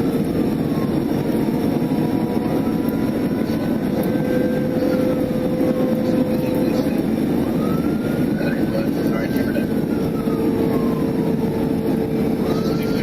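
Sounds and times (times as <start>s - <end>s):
car engine and road noise: 0.0s - 13.0s
police siren wailing: 0.0s - 13.0s.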